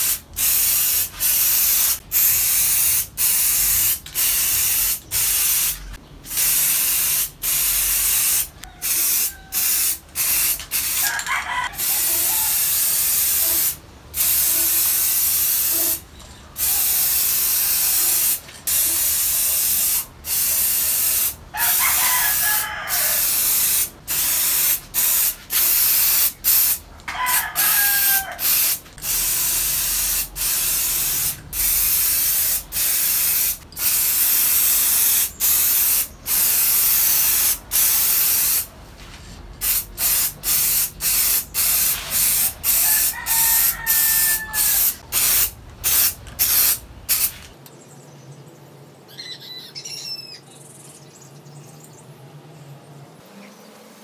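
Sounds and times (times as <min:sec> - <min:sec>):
spray paint can hissing: 0:00.0 - 0:16.0, 0:16.6 - 0:38.7, 0:39.6 - 0:47.6.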